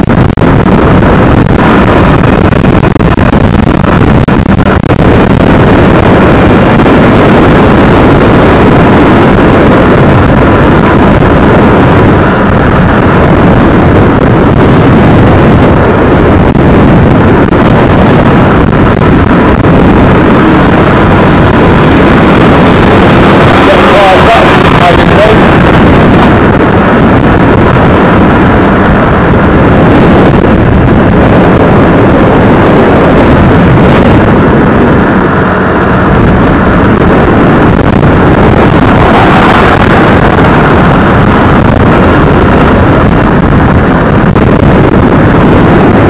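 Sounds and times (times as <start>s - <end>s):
motorcycle engine running: 0.0s - 46.0s
road noise: 0.0s - 46.0s
wind rushing on microphone: 0.0s - 46.0s.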